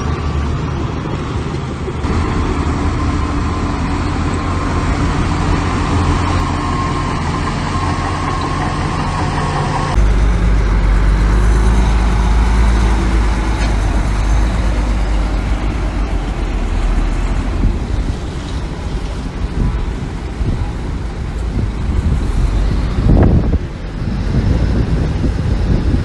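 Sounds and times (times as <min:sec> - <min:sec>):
diesel machinery engine running: 0:00.0 - 0:26.0.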